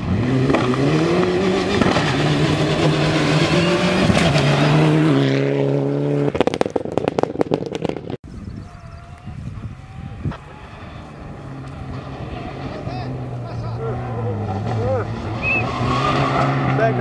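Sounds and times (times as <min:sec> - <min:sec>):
rally car engine revving high: 0:00.0 - 0:08.2, 0:08.9 - 0:17.0.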